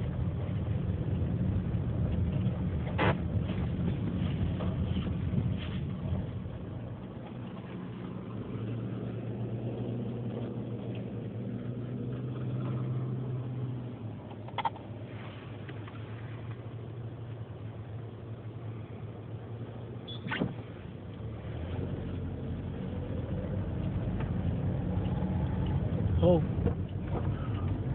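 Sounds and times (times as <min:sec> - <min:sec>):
car engine: 0:00.0 - 0:27.9
road noise: 0:00.0 - 0:27.9.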